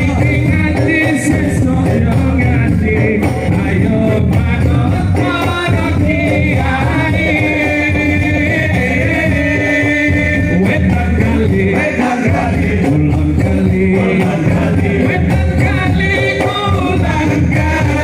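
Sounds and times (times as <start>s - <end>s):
man singing long notes: 0.0s - 18.0s
steady drumming: 0.0s - 18.0s.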